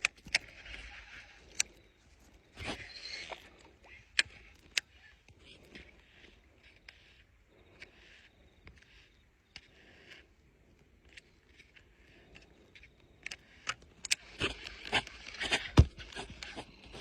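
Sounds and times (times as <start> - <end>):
light clicks: 0.0 - 17.0.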